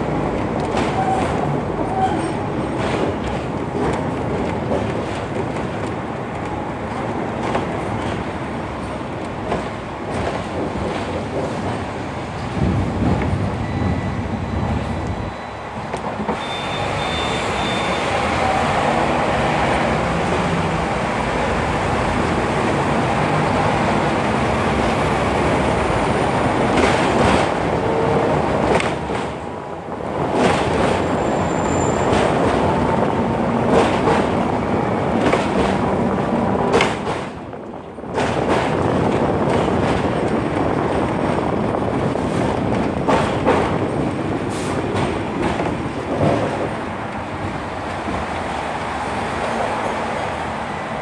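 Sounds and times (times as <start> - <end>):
tram wheels rumbling on rails: 0.0 - 51.0.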